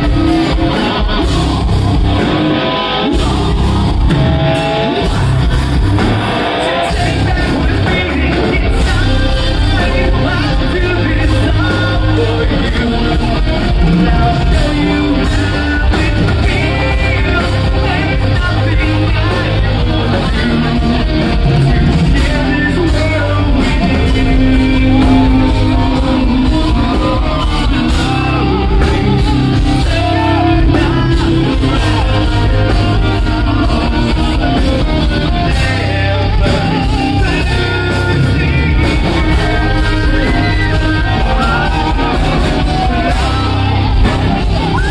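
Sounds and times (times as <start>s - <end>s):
live rock band playing: 0.0s - 44.9s
person singing and shouting: 0.0s - 44.9s.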